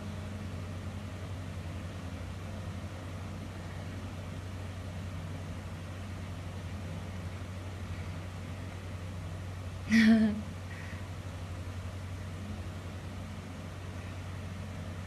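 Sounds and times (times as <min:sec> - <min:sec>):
constant hiss: 0:00.0 - 0:15.0
low hum: 0:00.0 - 0:15.0.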